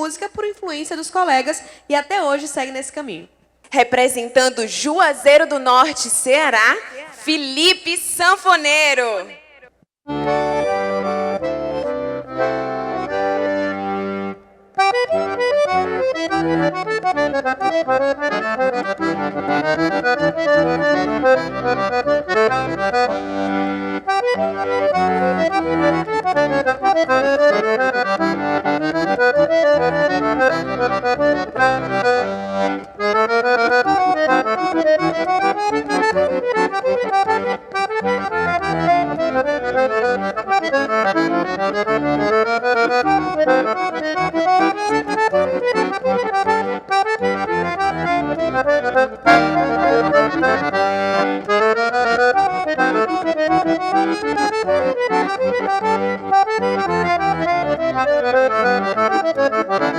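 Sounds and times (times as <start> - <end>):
accordion playing: 3.7 - 59.9.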